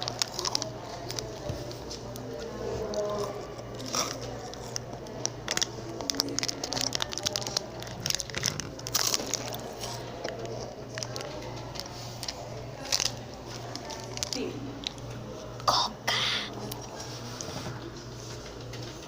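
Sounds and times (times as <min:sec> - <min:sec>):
chocolate crunching and chewing: 0:00.0 - 0:16.9.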